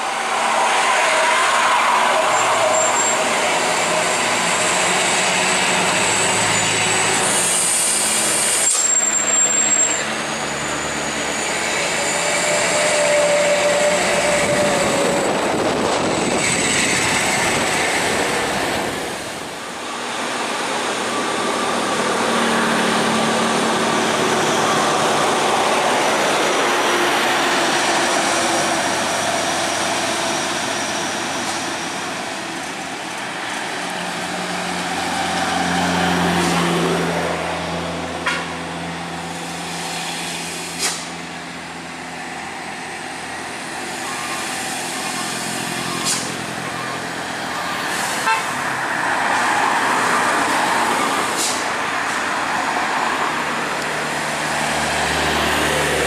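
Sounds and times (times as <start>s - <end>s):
heavy truck engine: 0.0s - 56.0s
traffic passing: 0.0s - 56.0s.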